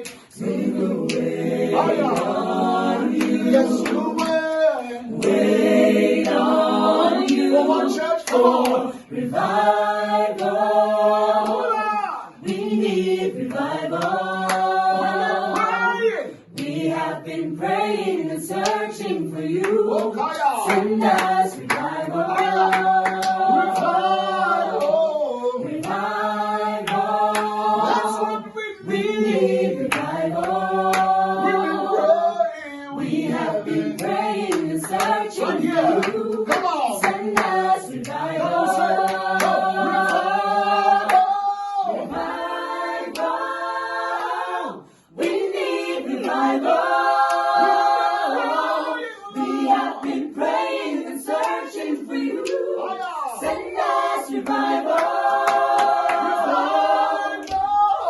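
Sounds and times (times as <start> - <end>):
hands clapping: 0.0 - 9.5, 10.1 - 17.1, 18.5 - 28.4, 29.3 - 32.2, 33.0 - 44.4, 45.2 - 48.8, 49.4 - 58.0
choir singing worship song: 0.0 - 58.0.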